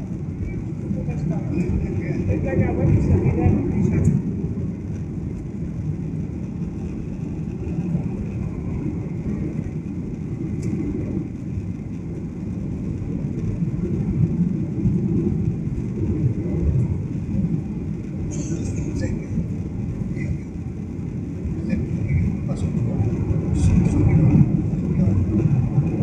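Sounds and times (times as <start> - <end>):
jet engine rumble in cabin: 0.0 - 26.0.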